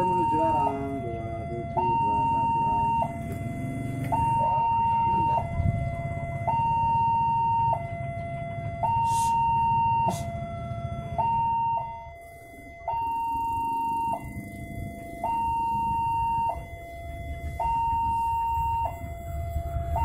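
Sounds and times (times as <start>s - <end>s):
two-tone level crossing siren: 0.0s - 20.0s.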